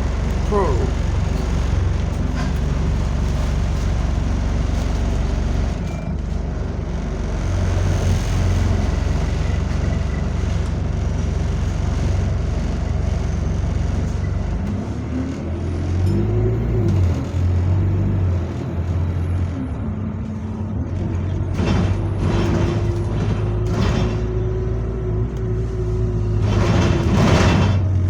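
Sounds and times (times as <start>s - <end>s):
bus diesel engine drone: 0.0s - 28.0s.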